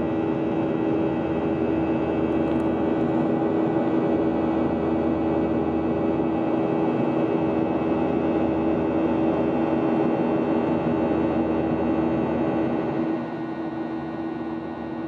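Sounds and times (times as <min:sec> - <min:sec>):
jet engines and airflow rushing: 0:00.0 - 0:15.0
steady humming tone: 0:00.0 - 0:15.0.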